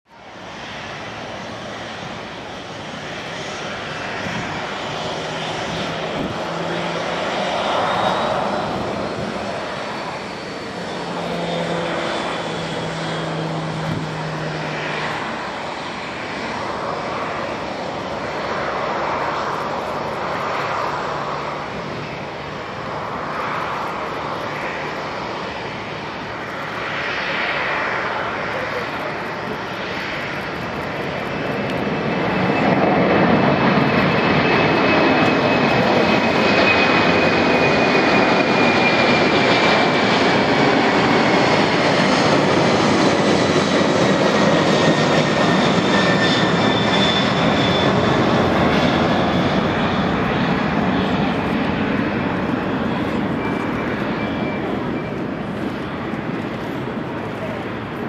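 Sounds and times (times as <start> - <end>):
distant jet engine roar: 0.1 - 58.0.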